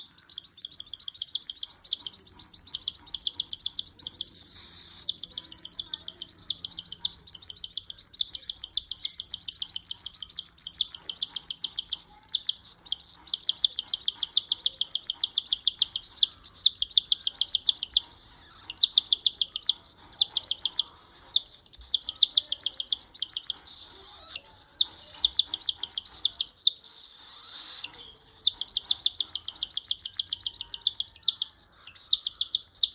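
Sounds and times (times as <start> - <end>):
cockatiel chick begging call: 0.2 - 32.9.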